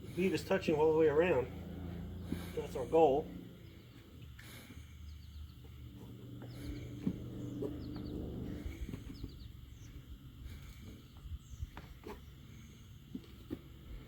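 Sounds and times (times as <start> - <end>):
low murmur: 0.0 - 11.5
small birds chirping: 0.0 - 13.3.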